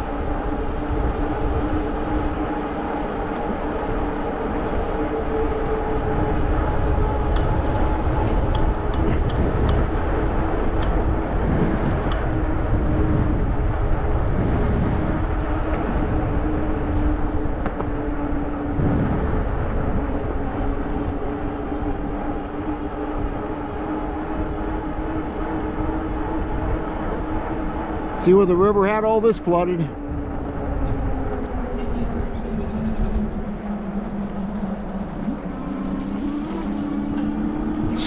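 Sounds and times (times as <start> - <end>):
steady hum: 0.0 - 38.0
tyres rolling on trail: 0.0 - 38.0
wind on microphone: 0.0 - 38.0.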